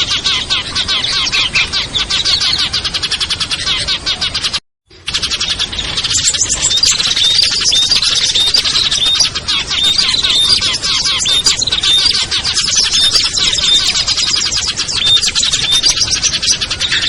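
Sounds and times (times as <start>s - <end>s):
songbirds chirping rapidly: 0.0s - 17.0s.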